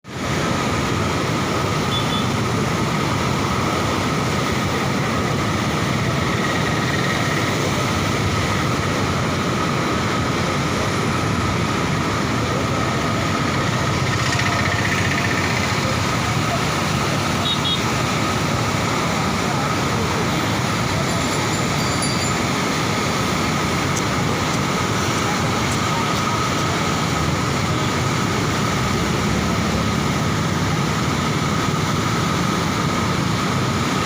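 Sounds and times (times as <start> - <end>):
floodwater rushing: 0.1 - 34.0.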